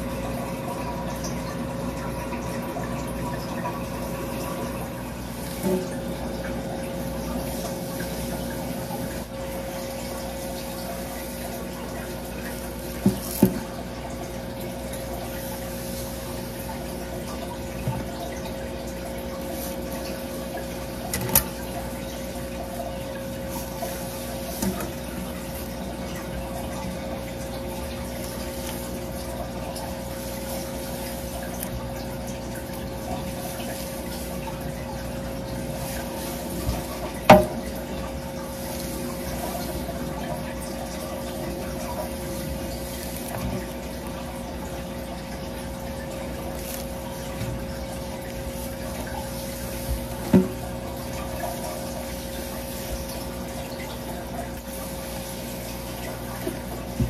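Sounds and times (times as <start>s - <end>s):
water running into a basin: 0.0s - 57.0s.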